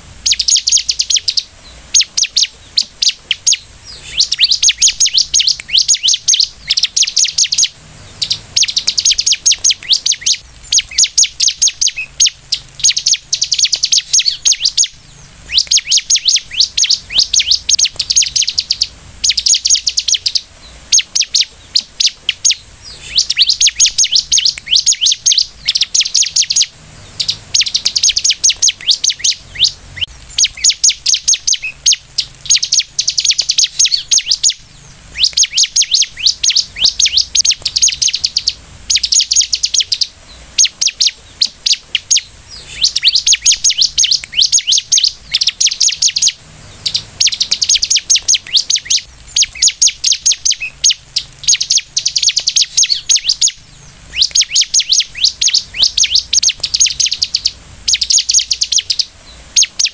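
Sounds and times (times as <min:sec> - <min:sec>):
bird singing sharp high chirps: 0:00.0 - 0:59.9.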